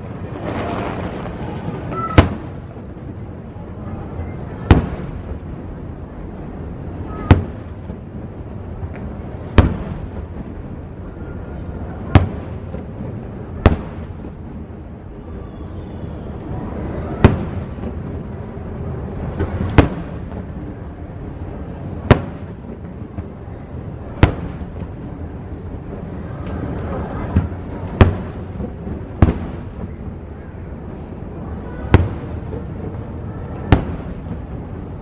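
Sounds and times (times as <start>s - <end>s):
faint crackling hiss: 0.0s - 35.0s
fireworks bangs: 0.0s - 35.0s.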